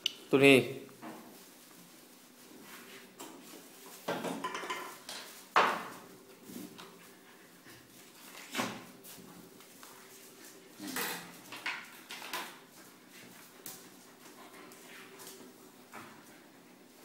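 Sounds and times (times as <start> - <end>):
puppies scuffling: 1.0 - 17.0.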